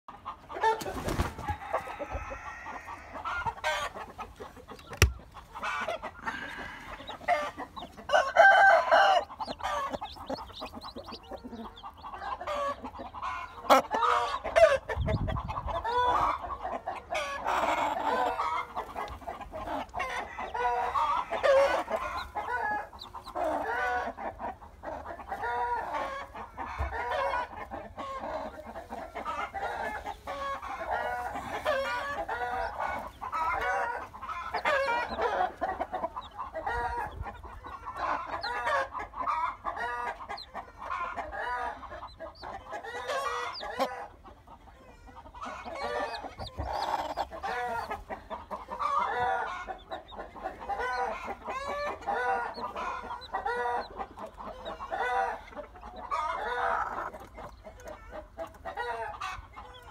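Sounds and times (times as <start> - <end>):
chicks peeping: 0.1 - 59.9
hen clucking: 0.1 - 59.9.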